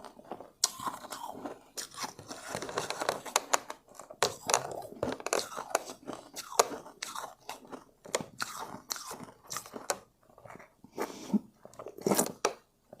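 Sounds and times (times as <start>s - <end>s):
chewing and crunching ice: 0.0s - 13.0s.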